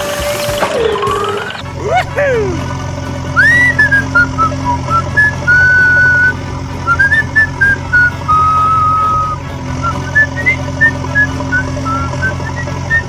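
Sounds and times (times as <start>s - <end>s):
whistled melody: 0.0s - 13.0s
steady low hum: 1.6s - 13.0s.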